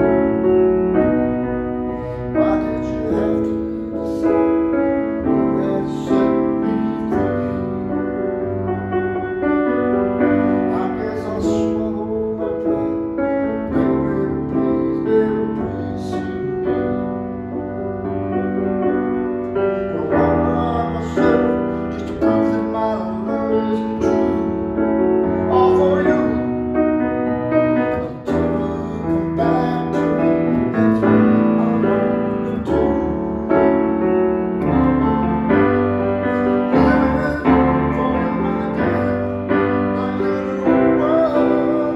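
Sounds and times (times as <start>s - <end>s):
piano piece: 0.0s - 41.9s.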